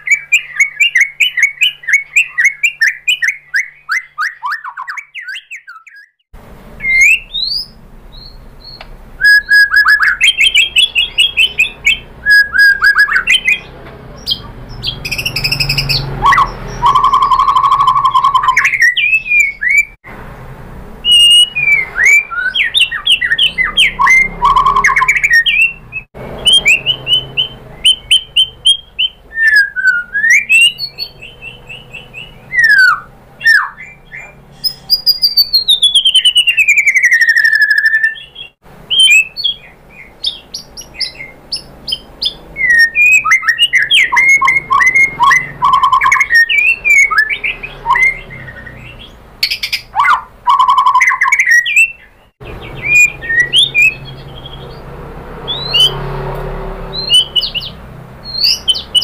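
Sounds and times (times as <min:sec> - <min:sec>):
songbird singing whistles and trills: 0:00.0 - 0:06.2, 0:06.8 - 0:20.0, 0:21.0 - 0:54.8, 0:55.4 - 0:56.1, 0:56.9 - 0:59.0.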